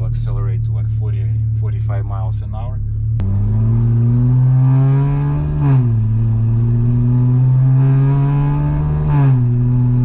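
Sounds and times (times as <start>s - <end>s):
car exhaust accelerating: 0.0s - 10.0s.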